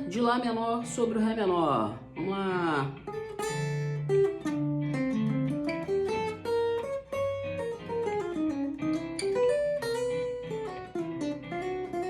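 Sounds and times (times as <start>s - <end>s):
guitar playing single-note lines: 0.0s - 12.0s.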